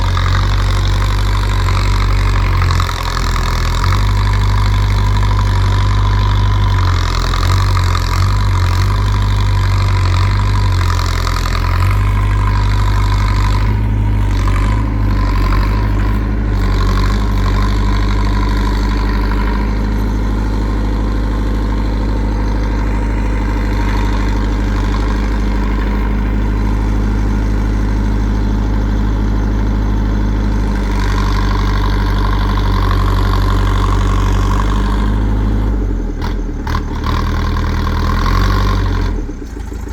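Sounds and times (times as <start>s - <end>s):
diesel engine running loudly: 0.0s - 39.9s.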